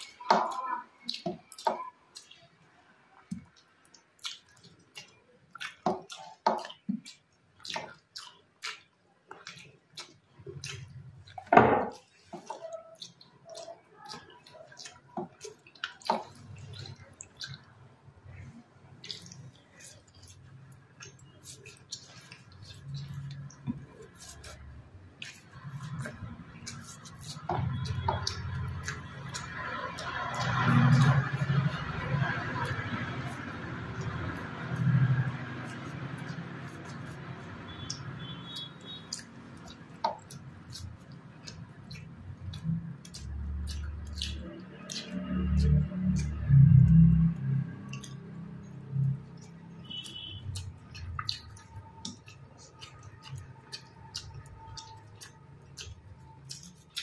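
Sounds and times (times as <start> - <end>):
person chewing food: 0.0 - 57.0
wet mouth smacks and clicks: 3.4 - 11.5, 12.4 - 17.7, 19.0 - 57.0.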